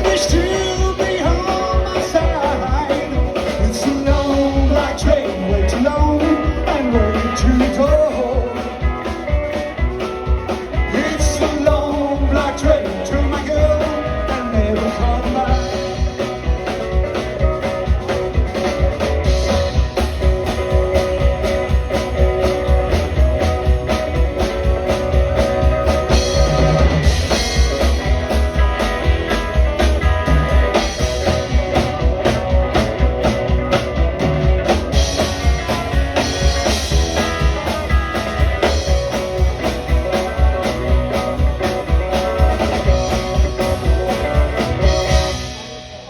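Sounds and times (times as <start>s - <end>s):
drum kit beat: 0.0s - 46.0s
electric guitar: 0.0s - 46.0s.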